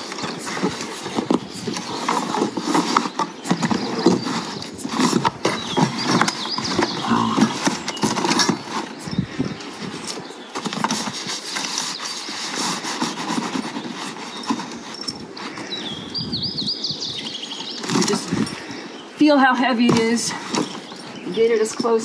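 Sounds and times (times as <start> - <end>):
hooves on pavement: 0.0 - 18.8.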